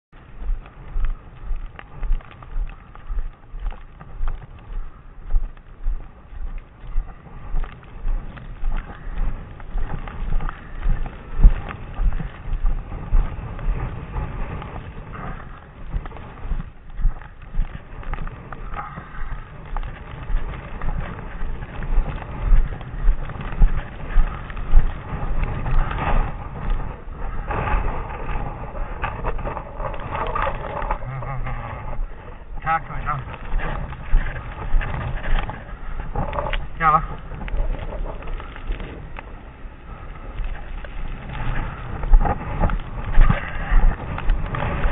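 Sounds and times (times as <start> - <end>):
footsteps on snow: 0.2 - 44.9.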